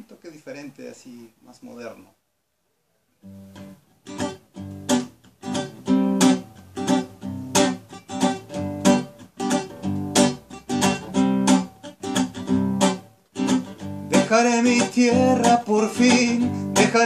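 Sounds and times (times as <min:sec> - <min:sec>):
acoustic guitar strumming: 0:03.2 - 0:17.0.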